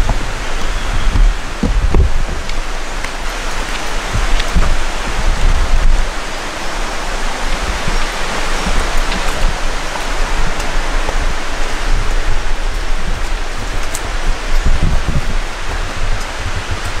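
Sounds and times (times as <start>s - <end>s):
low rumble on microphone: 0.0s - 17.0s
water rushing: 0.0s - 17.0s.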